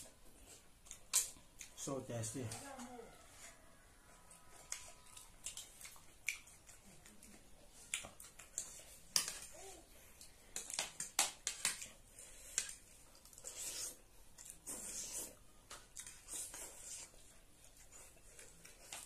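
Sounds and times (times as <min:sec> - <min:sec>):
wet chewing smacks: 0:02.4 - 0:19.0.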